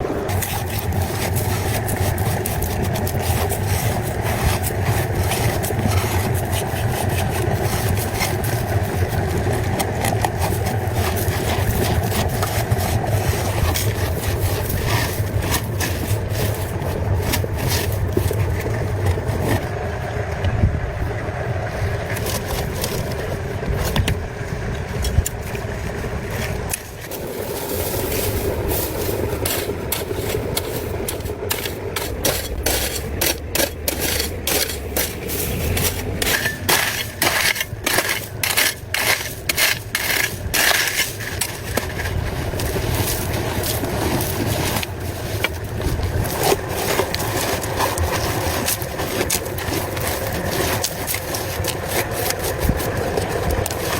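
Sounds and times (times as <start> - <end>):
clicks and scraping: 0.0 - 20.6, 21.7 - 53.9
vehicle engine running: 0.0 - 53.9.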